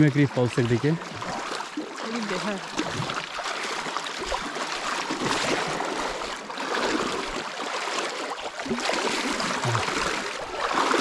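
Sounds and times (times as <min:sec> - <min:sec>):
splashing from wading: 0:00.0 - 0:11.0.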